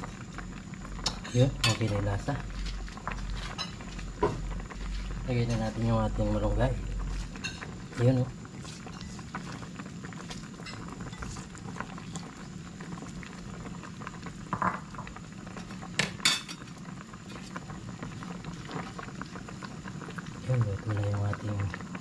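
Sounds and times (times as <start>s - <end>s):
soup boiling and bubbling: 0.0s - 22.0s.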